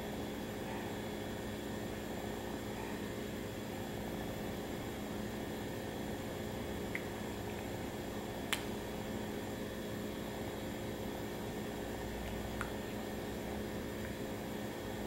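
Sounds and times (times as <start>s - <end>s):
room tone hum and hiss: 0.0s - 15.0s.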